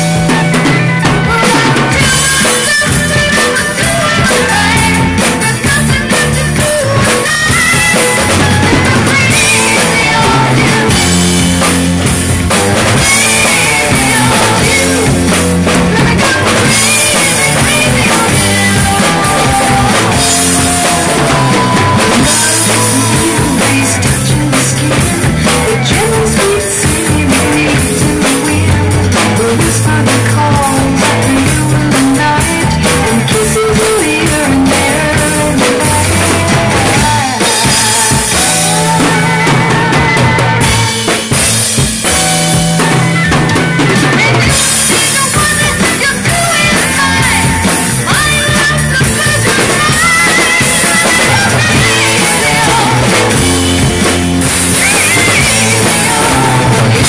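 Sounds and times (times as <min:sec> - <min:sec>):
drum kit rock groove: 0:00.0 - 0:57.0
loud rock music recording: 0:00.0 - 0:57.0.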